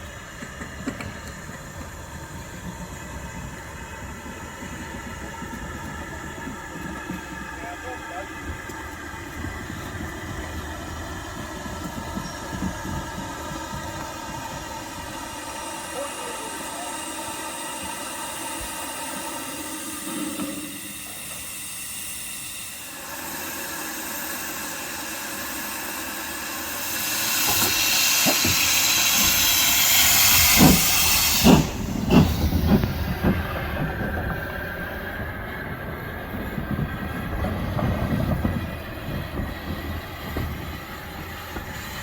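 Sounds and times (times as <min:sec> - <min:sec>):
steam locomotive hissing: 0:00.0 - 0:42.0.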